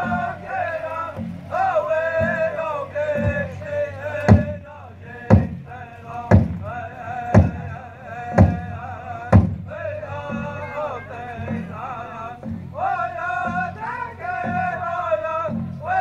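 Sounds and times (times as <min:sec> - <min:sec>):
group singing with wavering pitch: 0:00.0 - 0:16.0
large drum heavy beats: 0:00.0 - 0:16.0.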